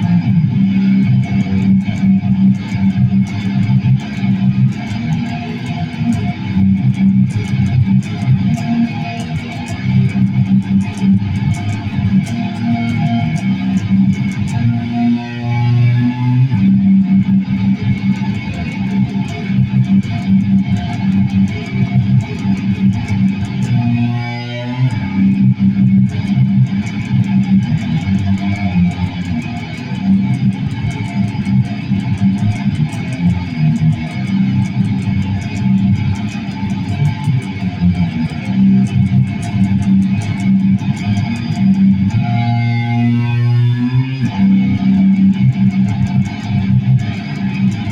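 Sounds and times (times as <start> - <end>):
electric guitar picked notes: 0.0 - 47.9.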